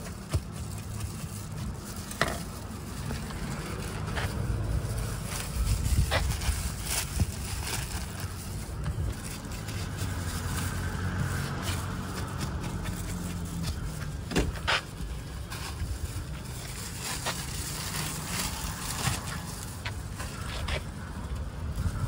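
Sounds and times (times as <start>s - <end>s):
plastic bags crinkling: 0.0s - 14.3s, 14.9s - 20.4s
low engine hum: 0.0s - 22.0s.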